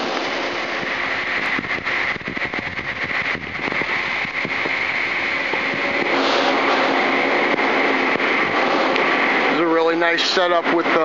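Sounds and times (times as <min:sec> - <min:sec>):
high machine whine: 0:00.0 - 0:11.0
hiss of running equipment: 0:00.0 - 0:11.0.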